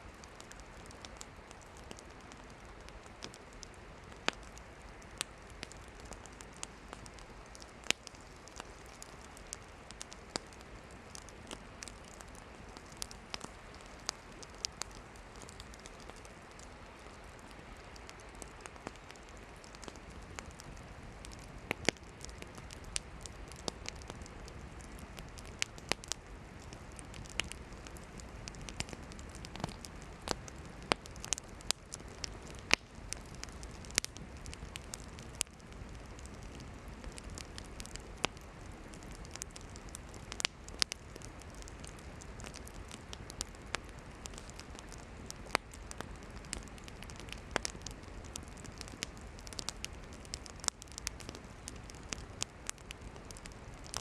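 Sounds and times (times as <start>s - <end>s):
campfire crackling and popping: 0.0s - 54.0s
hiss of flames: 0.1s - 54.0s.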